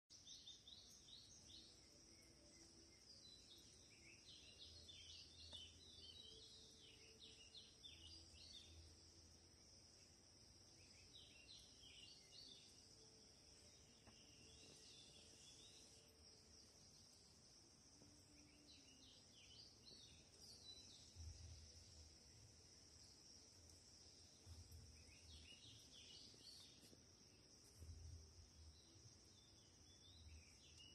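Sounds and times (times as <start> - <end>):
small birds chirping: 0.0 - 30.9
faint high hiss: 0.2 - 30.9.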